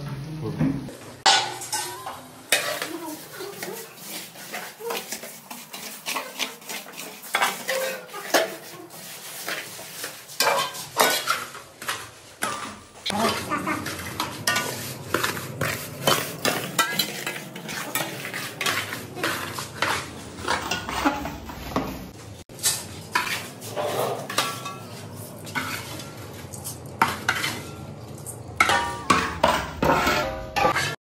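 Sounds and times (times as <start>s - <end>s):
spoon scraping metal pot: 2.5s - 21.5s, 22.6s - 27.8s, 28.6s - 31.0s.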